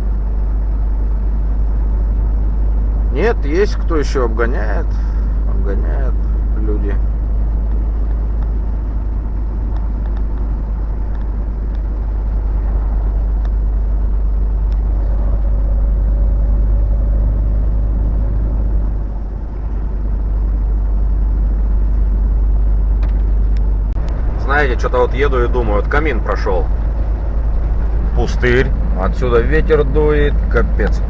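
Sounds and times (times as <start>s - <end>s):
truck engine and road drone: 0.0s - 31.0s.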